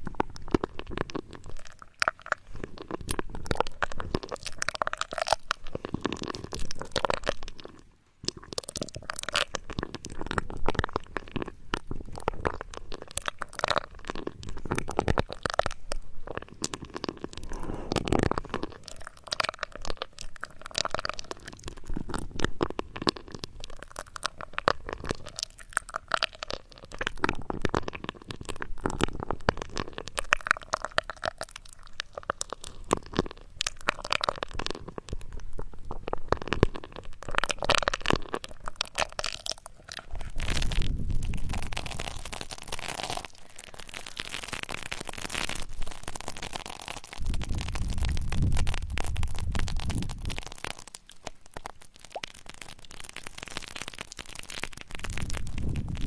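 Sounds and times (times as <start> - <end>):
crunching and crackling on microphone: 0.0 - 56.0.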